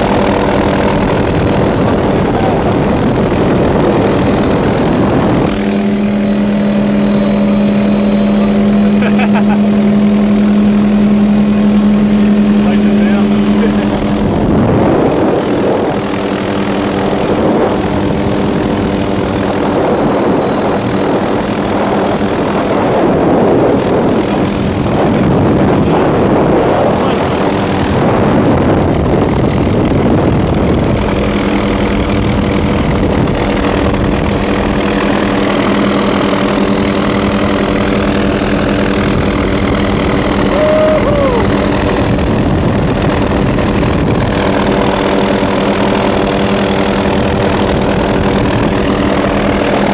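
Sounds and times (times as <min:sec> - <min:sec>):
engine droning: 0:00.0 - 0:49.9.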